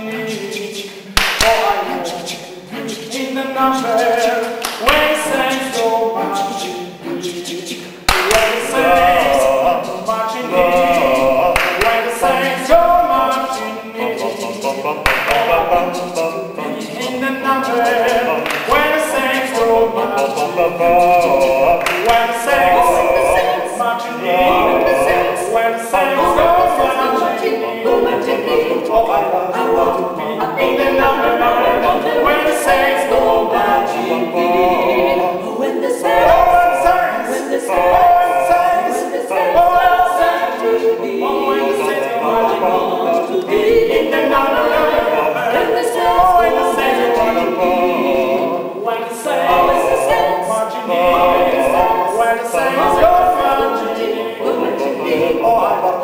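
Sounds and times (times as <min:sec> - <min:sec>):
a cappella group singing: 0:00.0 - 0:56.0.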